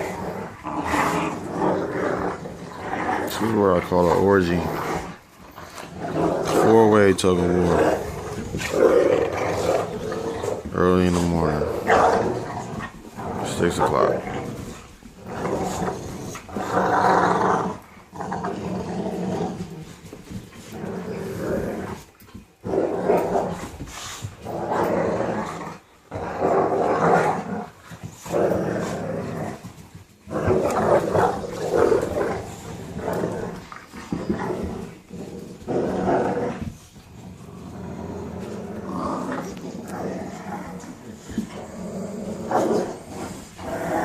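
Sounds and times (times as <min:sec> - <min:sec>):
puppies growling: 0:00.0 - 0:44.0.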